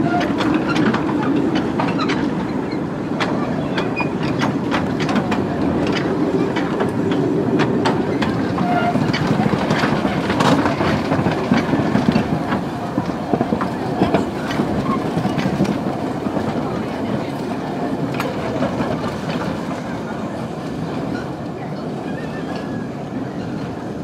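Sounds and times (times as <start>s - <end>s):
train coaches clicking over rail joints: 0.0s - 22.8s
steam locomotive passing: 0.0s - 24.0s.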